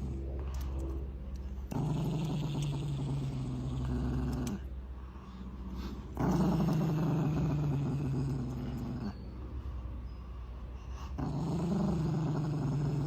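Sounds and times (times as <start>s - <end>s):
dog growling: 0.0s - 9.4s, 10.9s - 13.0s.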